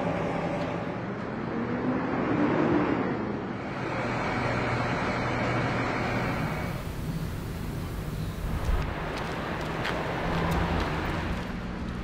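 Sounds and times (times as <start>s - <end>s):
excavator diesel engine running: 0.0s - 1.2s, 3.6s - 12.0s.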